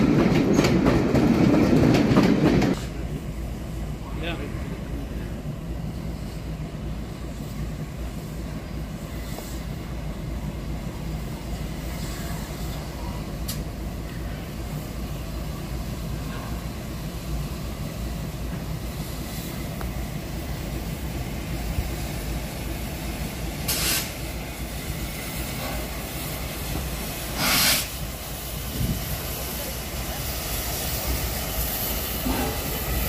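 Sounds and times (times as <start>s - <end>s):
steam locomotive rumbling: 0.0s - 33.0s.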